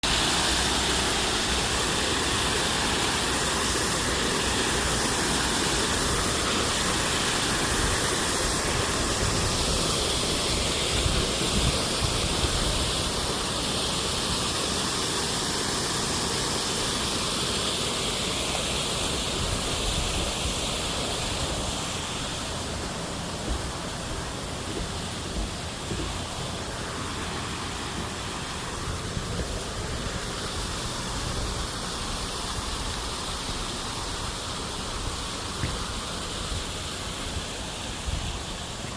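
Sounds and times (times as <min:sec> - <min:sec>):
water pouring down waterfall: 0:00.0 - 0:38.9.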